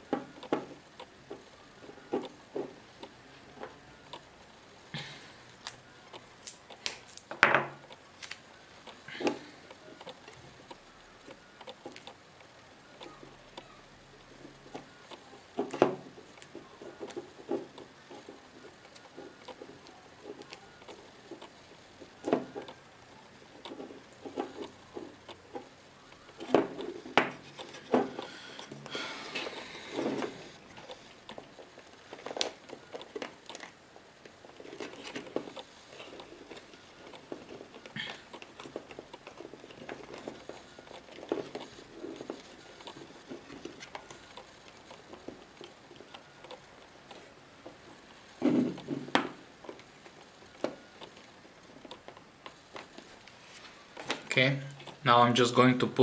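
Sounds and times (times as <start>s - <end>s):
plastic parts clicking: 5.5s - 53.4s.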